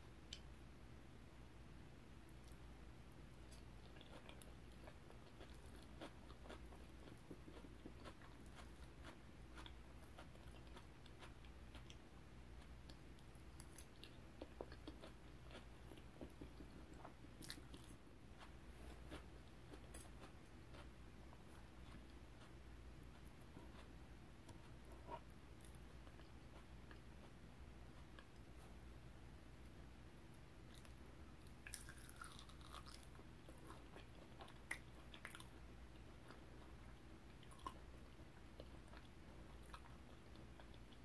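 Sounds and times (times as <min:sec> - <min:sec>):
wet chewing with crunches: 0:03.5 - 0:28.8, 0:30.7 - 0:41.0.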